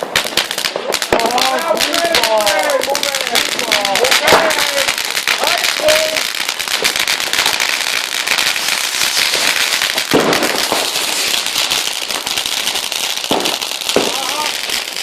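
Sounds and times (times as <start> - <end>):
firecrackers crackling: 0.0 - 15.0
loud firework bangs: 0.0 - 15.0.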